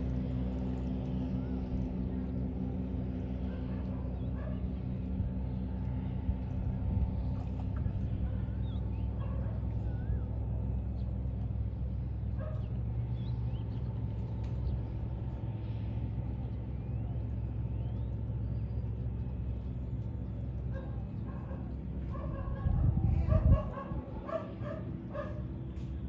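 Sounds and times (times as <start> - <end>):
low rumble with faint hum: 0.0 - 26.0.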